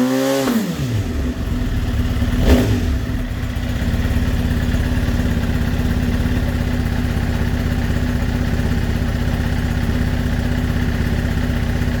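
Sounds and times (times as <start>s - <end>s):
motorcycle engine idling: 0.8s - 12.0s.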